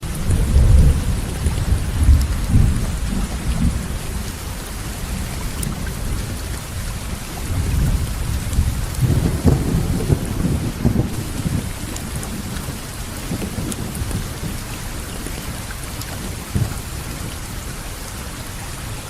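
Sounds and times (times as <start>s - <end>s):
rolling thunder rumbles: 0.0s - 17.8s
steady rainfall: 0.0s - 19.0s.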